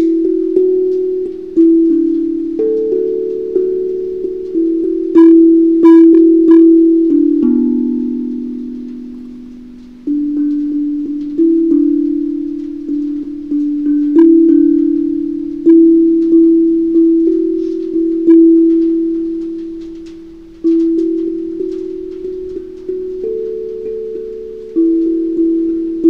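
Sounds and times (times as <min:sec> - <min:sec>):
steel tongue drum melody: 0:00.0 - 0:26.0.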